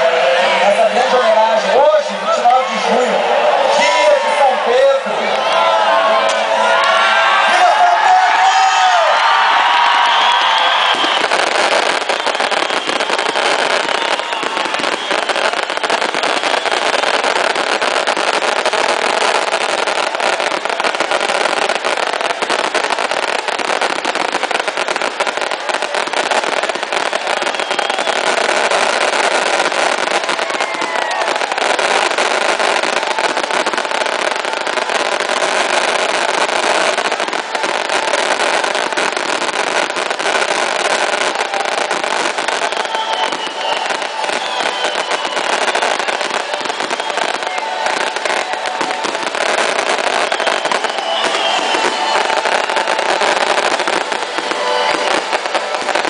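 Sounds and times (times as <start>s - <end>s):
fireworks hiss and crackle: 6.3s - 56.0s
fireworks whistles: 9.7s - 56.0s.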